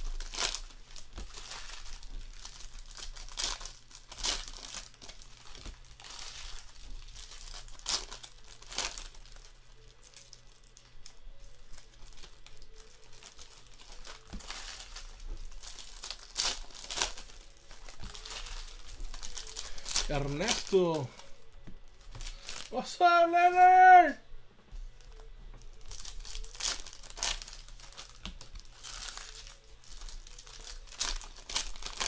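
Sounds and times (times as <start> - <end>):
foil wrappers crinkling and tearing: 0.0 - 24.0, 24.9 - 32.0.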